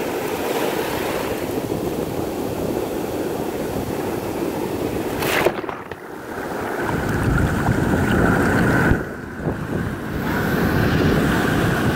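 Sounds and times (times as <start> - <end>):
waves breaking: 0.0 - 11.9
wind buffeting microphone: 0.0 - 11.9.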